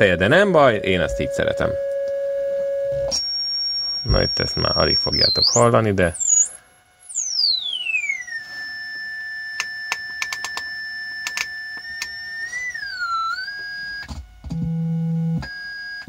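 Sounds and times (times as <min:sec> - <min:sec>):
test tone whistle from speaker: 0:00.0 - 0:14.1, 0:15.4 - 0:16.0.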